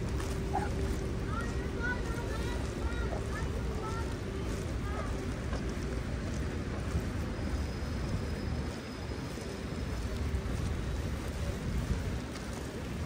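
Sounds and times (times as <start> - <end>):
low traffic rumble: 0.0 - 13.0
tyres hissing on wet road: 0.0 - 13.0.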